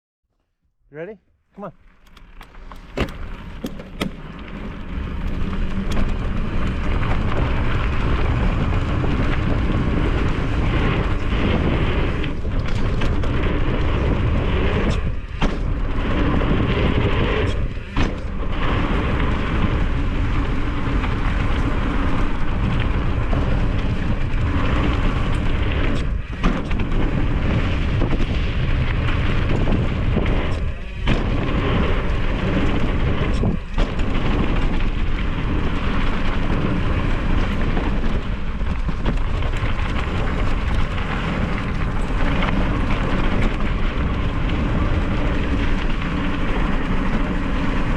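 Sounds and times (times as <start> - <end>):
wind buffeting microphone: 2.0 - 47.9.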